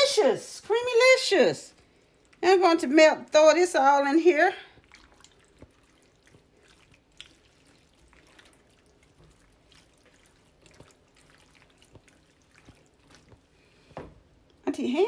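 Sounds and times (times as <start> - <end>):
wet squishing of pasta stirring: 0.0 - 14.6.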